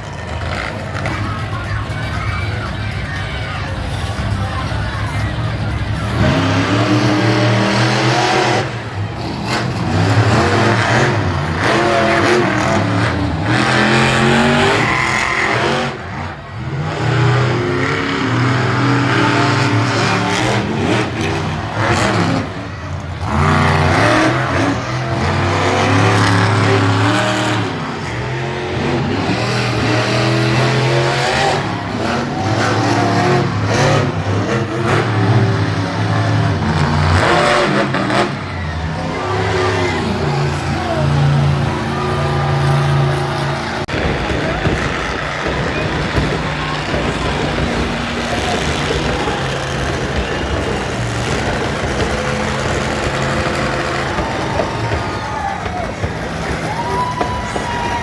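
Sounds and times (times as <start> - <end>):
truck engine revving hard: 0.0 - 58.0.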